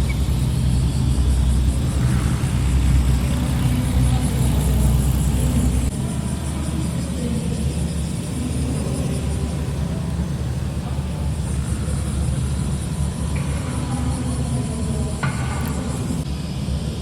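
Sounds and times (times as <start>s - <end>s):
car engine idling deep rumble: 0.0s - 16.3s.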